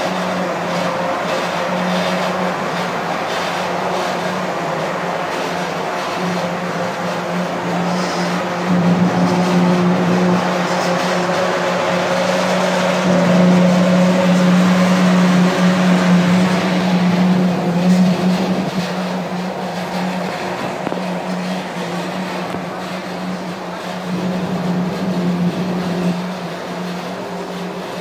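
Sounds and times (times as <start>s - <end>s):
washing machine humming and whirring: 0.0s - 28.0s.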